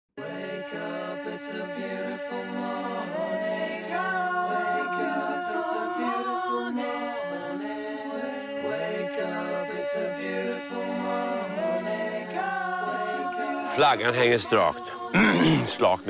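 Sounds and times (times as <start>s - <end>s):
voices singing in harmony: 0.2s - 16.0s.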